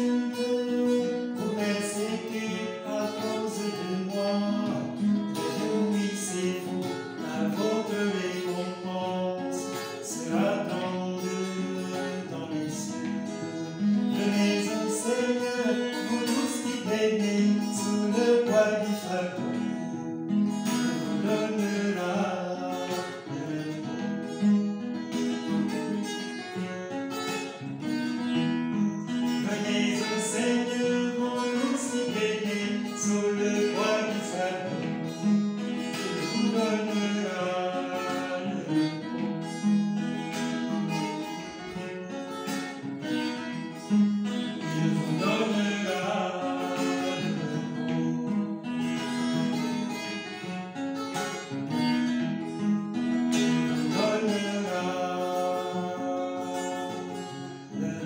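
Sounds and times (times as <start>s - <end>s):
acoustic guitar strummed and picked: 0.0s - 58.0s.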